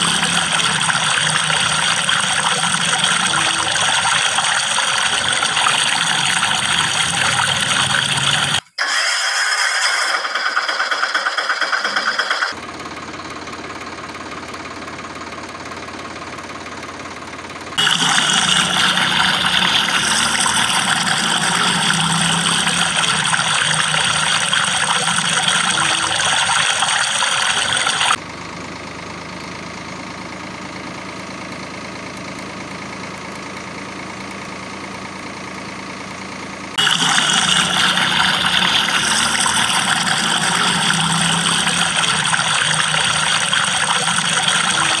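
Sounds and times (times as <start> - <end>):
engine running: 0.0 - 45.0.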